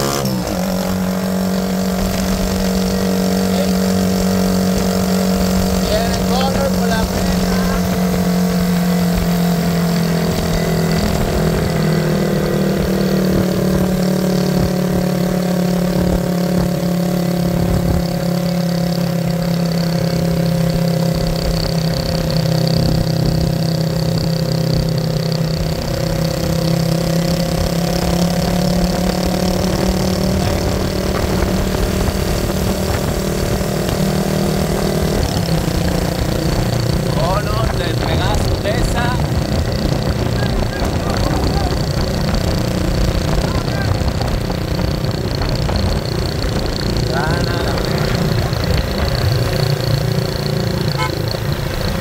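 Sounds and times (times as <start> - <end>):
vehicle engine running steadily: 0.0 - 52.0.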